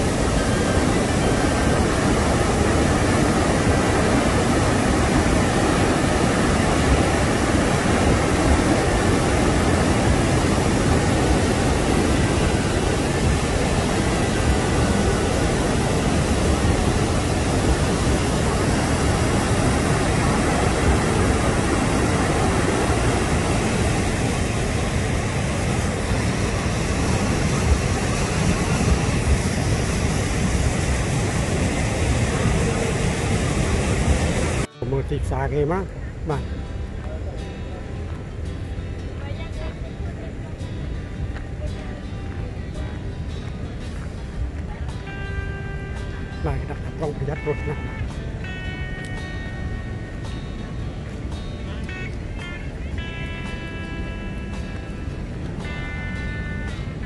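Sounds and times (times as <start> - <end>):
river rushing through rapids: 0.0 - 34.8, 36.0 - 57.0.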